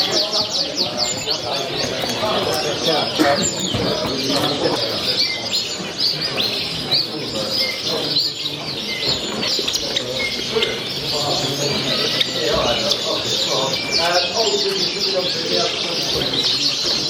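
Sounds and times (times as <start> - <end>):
caged birds chirping: 0.0 - 17.0.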